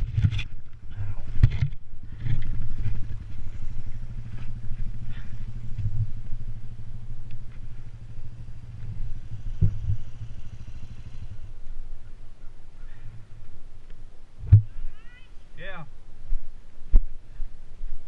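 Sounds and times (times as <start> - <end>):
atv engine running: 0.0 - 14.8
faint ticks and rattles: 0.0 - 18.0.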